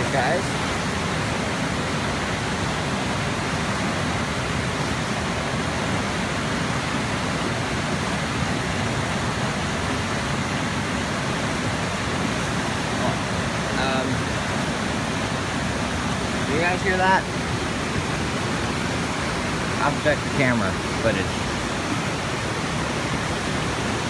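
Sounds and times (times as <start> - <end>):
waterfall and rapids rushing: 0.0 - 24.0.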